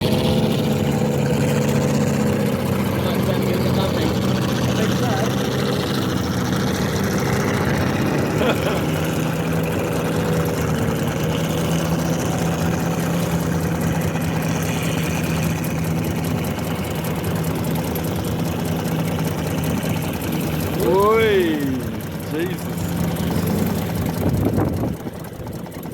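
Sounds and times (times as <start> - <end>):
boat engine humming: 0.0 - 25.9.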